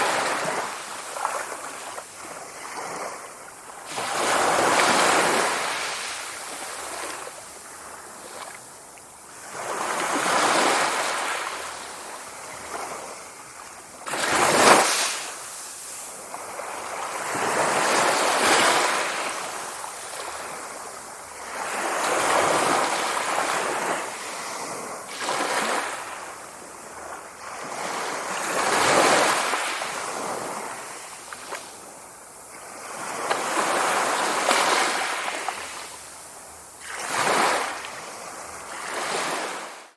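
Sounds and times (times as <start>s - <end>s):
sea waves breaking: 0.0s - 8.6s, 9.3s - 31.9s, 36.8s - 39.8s.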